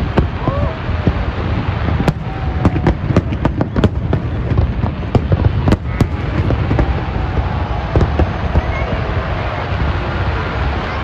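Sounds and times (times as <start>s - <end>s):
fireworks booms and bangs: 0.0s - 11.0s
fireworks crackle and rumble: 0.0s - 11.0s.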